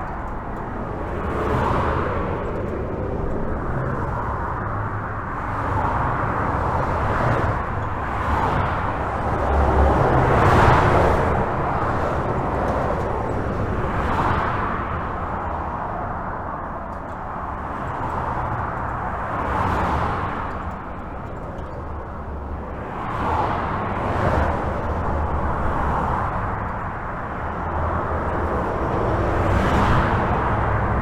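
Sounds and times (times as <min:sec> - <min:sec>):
highway traffic rushing: 0:00.0 - 0:31.0
vehicles passing: 0:00.0 - 0:31.0.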